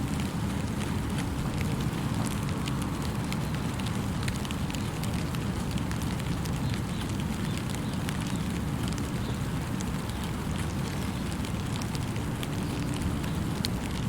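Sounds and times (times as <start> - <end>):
steady rain in forest: 0.0 - 14.0.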